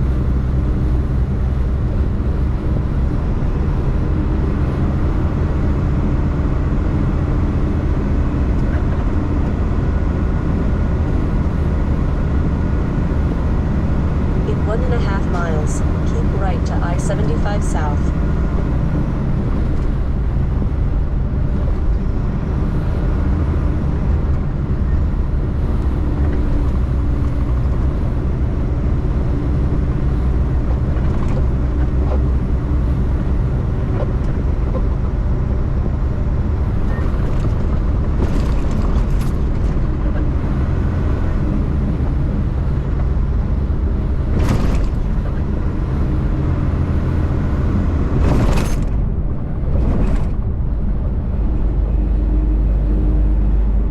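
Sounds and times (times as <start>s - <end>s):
diesel truck engine running: 0.0s - 53.9s
road rumble: 0.0s - 53.9s.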